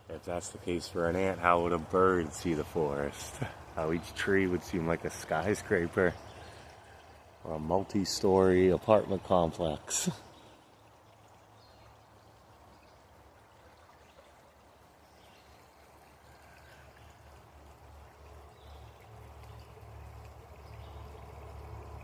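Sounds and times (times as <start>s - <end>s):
steady hiss of running water: 0.0s - 22.0s.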